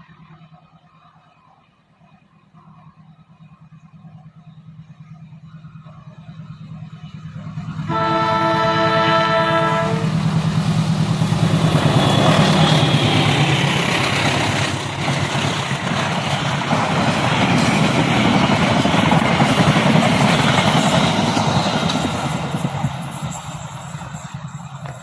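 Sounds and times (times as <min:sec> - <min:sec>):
train rumbling and rattling past: 0:00.0 - 0:25.0.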